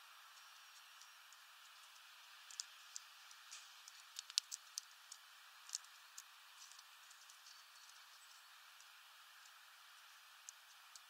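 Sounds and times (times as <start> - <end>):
bird pecking seed on feeder: 1.7 - 11.0.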